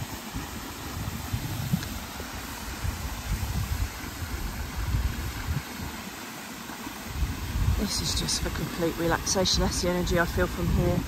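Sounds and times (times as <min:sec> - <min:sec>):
wind buffeting microphone: 0:00.0 - 0:06.2, 0:06.9 - 0:11.0
river water flowing: 0:00.0 - 0:11.0.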